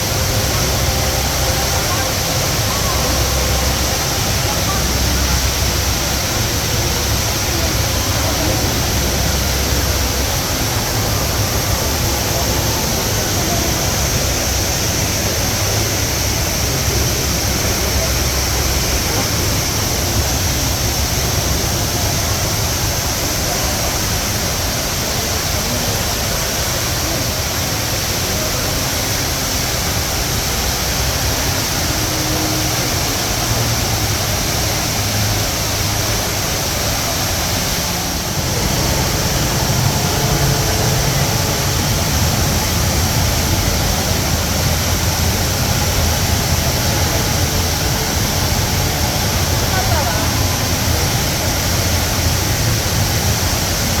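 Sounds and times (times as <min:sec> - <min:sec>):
indoor waterfall roaring: 0:00.0 - 0:54.0.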